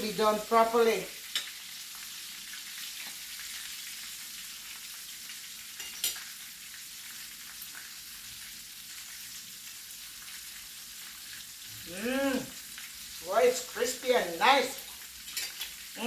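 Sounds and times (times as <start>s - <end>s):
chicken frying in hot oil: 0.0s - 16.0s.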